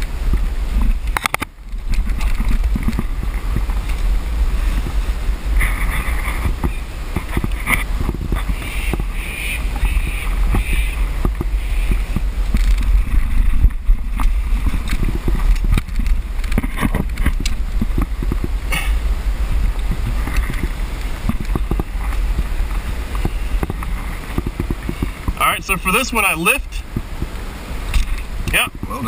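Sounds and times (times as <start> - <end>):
hands and clothing scraping rock: 0.0 - 27.3
wind buffeting microphone: 0.0 - 29.0.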